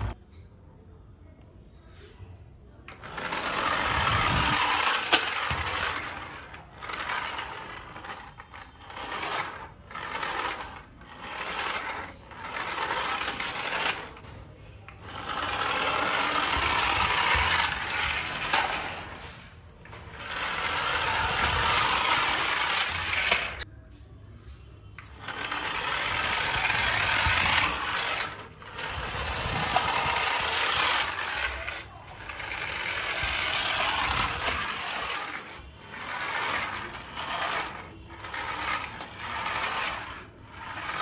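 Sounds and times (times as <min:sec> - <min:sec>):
toy car motor whirring: 0:02.9 - 0:14.2, 0:14.9 - 0:23.7, 0:25.0 - 0:41.0.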